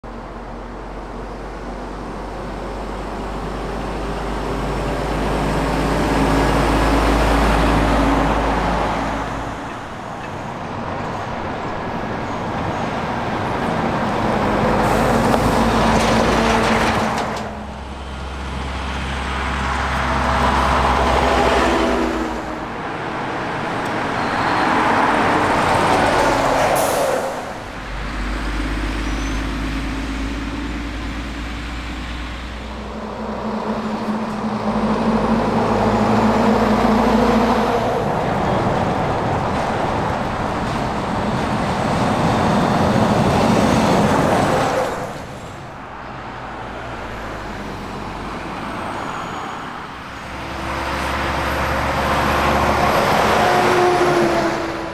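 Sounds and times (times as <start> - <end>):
trucks and cars passing: 0.0 - 54.9.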